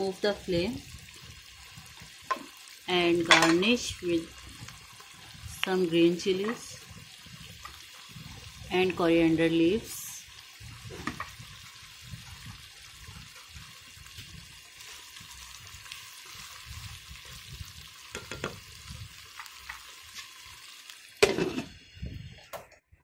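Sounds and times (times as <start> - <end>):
food sizzling in a pan: 0.0 - 22.6.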